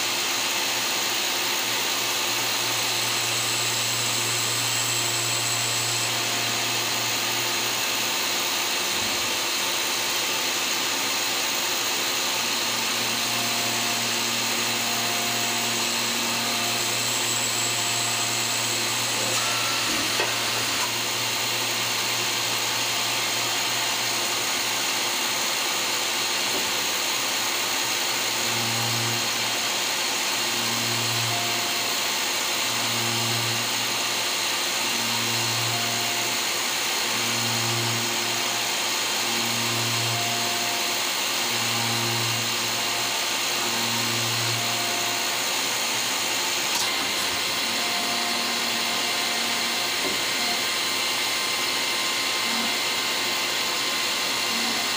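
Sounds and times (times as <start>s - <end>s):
lathe machine hiss: 0.0s - 54.9s.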